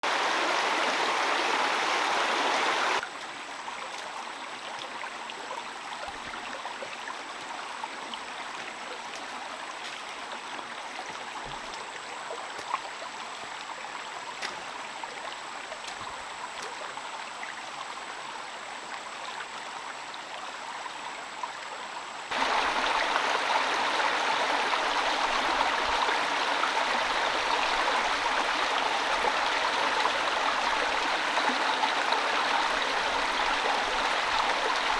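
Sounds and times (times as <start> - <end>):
rushing water: 0.0 - 18.2, 22.3 - 34.9.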